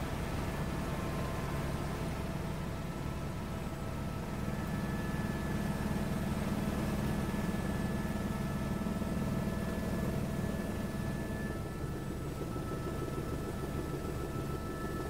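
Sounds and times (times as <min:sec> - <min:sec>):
helicopter engine and rotor drone: 0:00.0 - 0:15.0
thin steady whines: 0:00.0 - 0:15.0.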